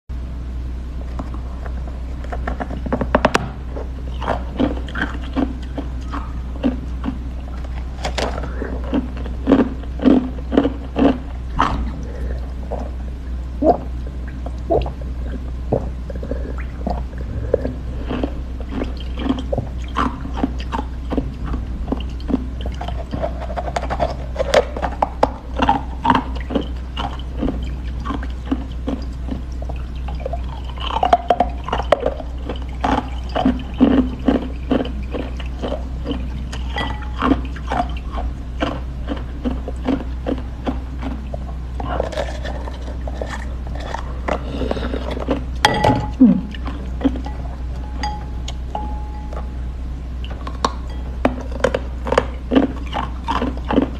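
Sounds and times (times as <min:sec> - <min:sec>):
low hum: 0:00.1 - 0:53.9
crunching and wet chewing: 0:01.0 - 0:53.9.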